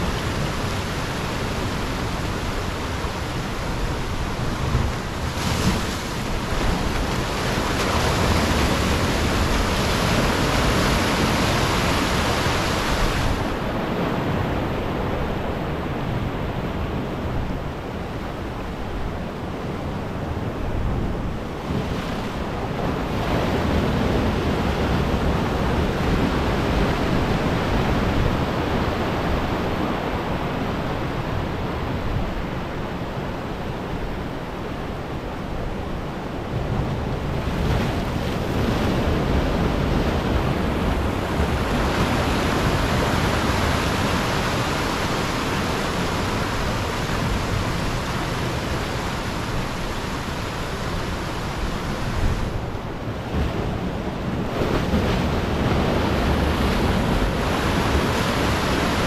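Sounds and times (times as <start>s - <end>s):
surf washing over rocks: 0.0s - 59.0s.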